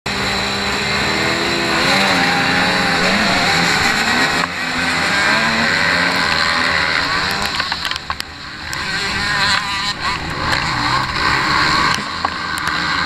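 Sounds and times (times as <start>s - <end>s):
dirt bike engines revving: 0.1s - 13.0s.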